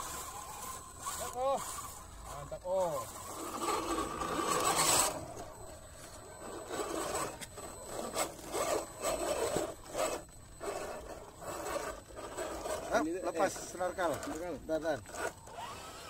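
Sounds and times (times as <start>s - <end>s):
toy motor and gears whirring: 0.0s - 16.0s
tyres scraping on rock: 0.0s - 16.0s.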